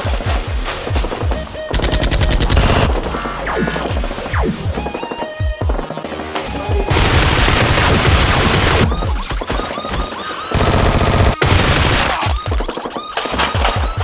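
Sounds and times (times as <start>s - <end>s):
rapid automatic gunfire: 0.0s - 4.9s, 6.9s - 14.0s
background music: 0.0s - 14.0s.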